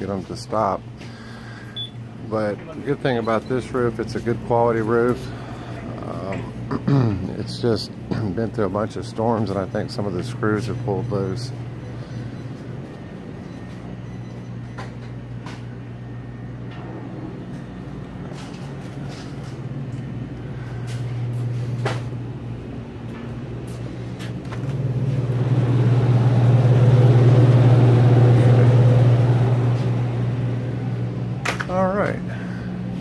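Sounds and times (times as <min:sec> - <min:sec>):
cooler fans whirring: 0:00.0 - 0:33.0
low machine hum: 0:00.0 - 0:33.0.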